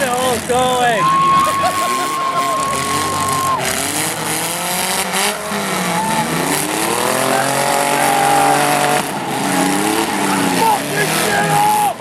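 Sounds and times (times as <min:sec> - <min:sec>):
car engines revving: 0:00.0 - 0:12.0
track noise rushing: 0:00.0 - 0:12.0.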